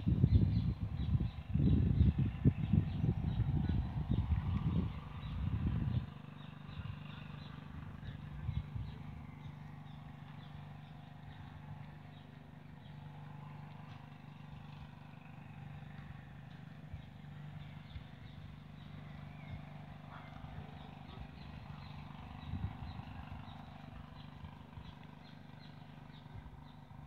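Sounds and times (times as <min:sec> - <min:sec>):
distant road traffic hum: 0:00.0 - 0:27.0.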